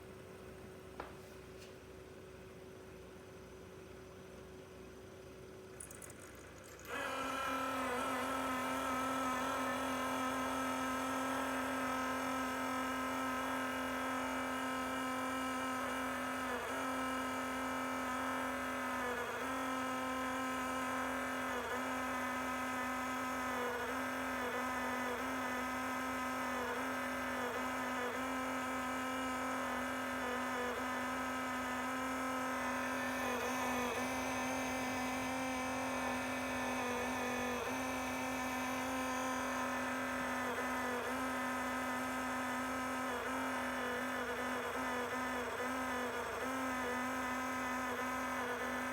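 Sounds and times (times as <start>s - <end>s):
cooler pump buzzing whine: 0.0s - 48.9s.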